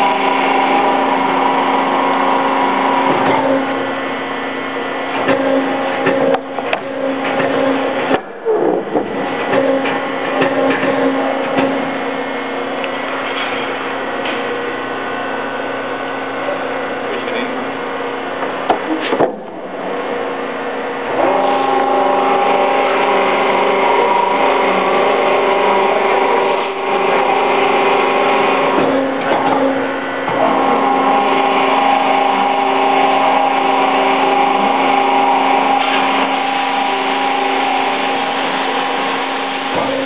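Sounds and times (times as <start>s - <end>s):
rolling machine humming: 0.0s - 40.0s.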